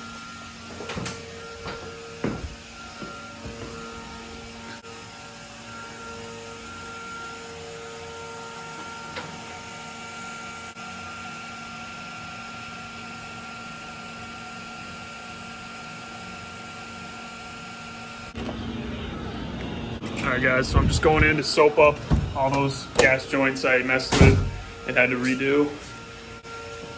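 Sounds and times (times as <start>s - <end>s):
mechanical hum of equipment: 0.0s - 26.9s.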